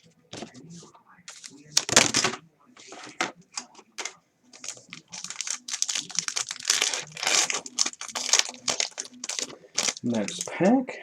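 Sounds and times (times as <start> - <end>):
wrapper crinkling and rustling: 1.3 - 10.6.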